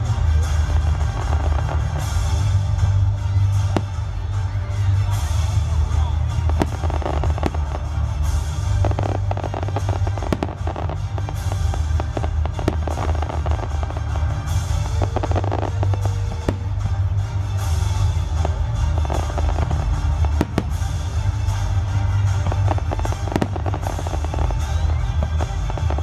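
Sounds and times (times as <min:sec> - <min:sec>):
fireworks cracking and banging: 0:00.0 - 0:26.0
music playing: 0:00.0 - 0:26.0.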